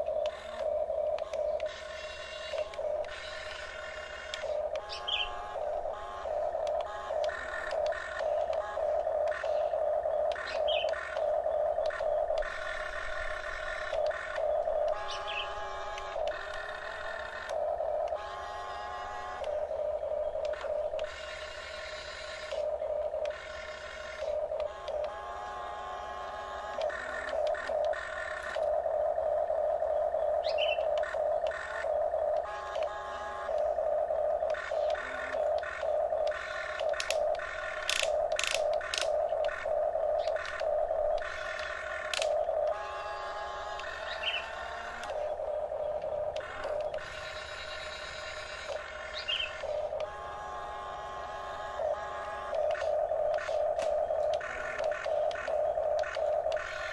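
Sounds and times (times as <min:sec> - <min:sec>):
electric motors whining: 0:00.0 - 0:56.9.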